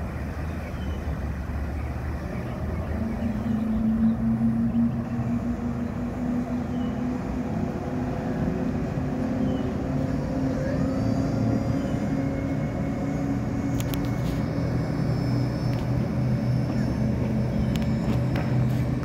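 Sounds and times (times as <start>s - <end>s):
boat wake hissing: 0.0s - 19.0s
outboard motors droning: 0.0s - 19.0s.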